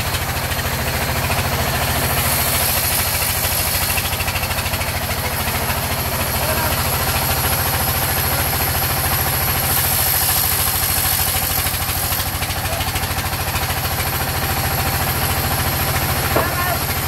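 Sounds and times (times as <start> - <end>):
engine chugging: 0.0 - 17.0.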